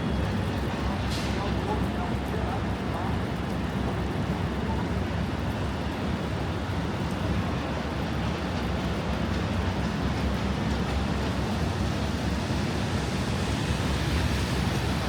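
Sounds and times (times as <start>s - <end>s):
city traffic hum: 0.0s - 15.0s.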